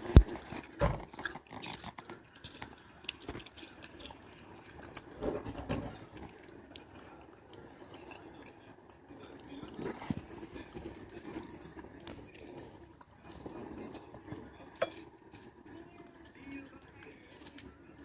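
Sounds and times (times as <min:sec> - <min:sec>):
dog chewing watermelon: 0:00.1 - 0:18.0.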